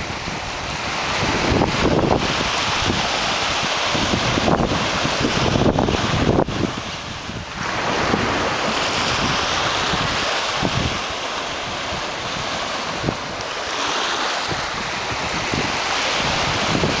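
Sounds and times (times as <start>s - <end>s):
waves washing up a beach: 0.0s - 17.0s
wind gusting on microphone: 0.0s - 17.0s.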